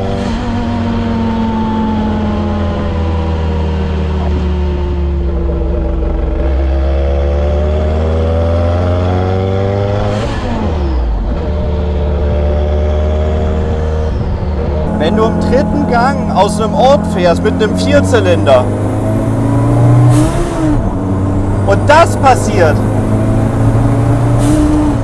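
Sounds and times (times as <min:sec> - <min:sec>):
car engine pulling under load: 0:00.0 - 0:25.0.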